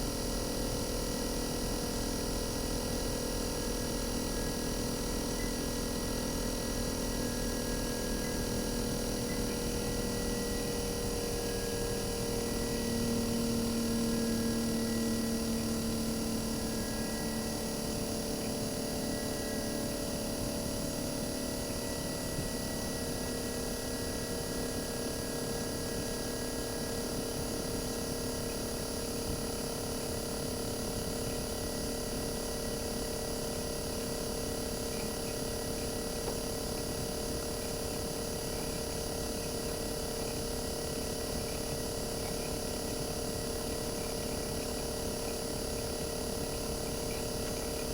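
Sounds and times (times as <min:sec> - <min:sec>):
compressor hum and whine: 0:00.0 - 0:47.9.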